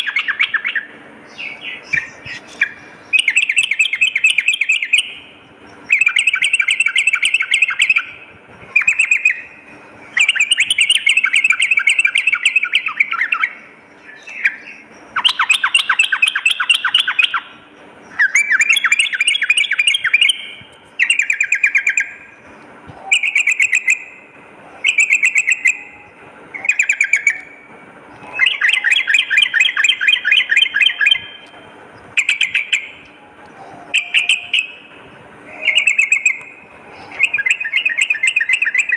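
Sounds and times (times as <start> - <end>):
bulbul singing bubbly chatter: 0.0 - 38.9.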